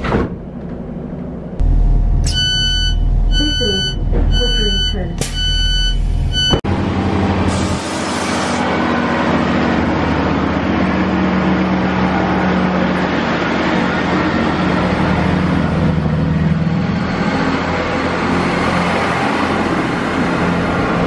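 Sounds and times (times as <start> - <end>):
diesel train engines droning: 0.0 - 21.0.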